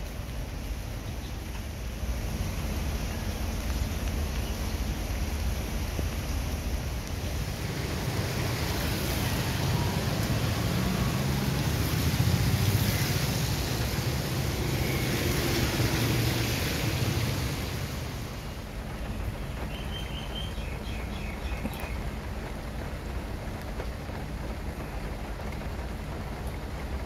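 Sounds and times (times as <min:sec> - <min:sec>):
rain hissing: 0:00.0 - 0:27.0
traffic engines running: 0:00.0 - 0:27.0
wet road noise: 0:00.0 - 0:27.0.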